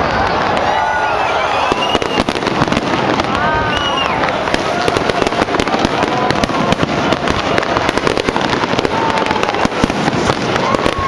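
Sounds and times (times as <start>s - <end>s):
fireworks bangs and crackles: 0.0s - 11.0s
falling firework whistles: 0.2s - 11.0s.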